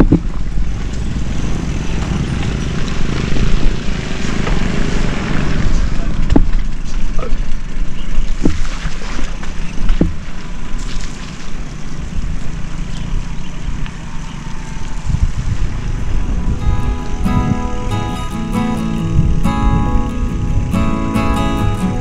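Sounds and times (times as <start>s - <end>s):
wind and road rumble: 0.0s - 22.0s.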